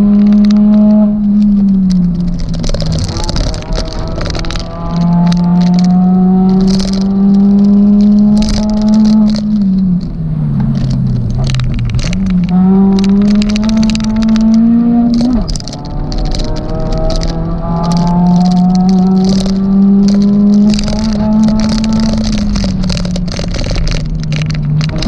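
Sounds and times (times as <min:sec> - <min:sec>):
car engine under hard throttle: 0:00.0 - 0:25.0
sharp clicks and rattles: 0:00.0 - 0:25.0.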